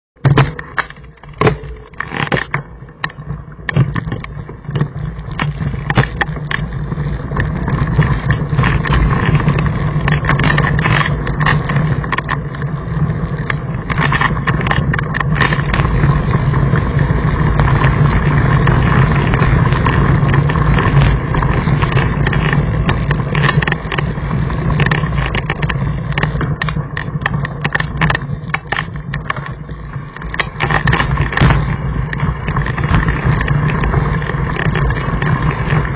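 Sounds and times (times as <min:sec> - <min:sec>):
bike knocking and rattling: 0:00.2 - 0:35.9
bike tyres rumbling on stones: 0:00.2 - 0:35.9.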